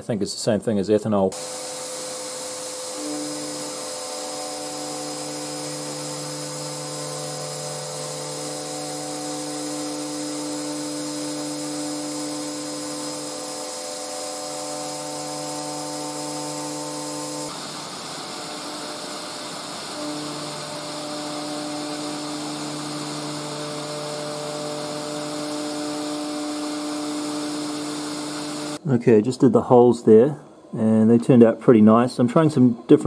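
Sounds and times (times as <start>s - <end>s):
router spindle milling metal: 1.3s - 28.8s.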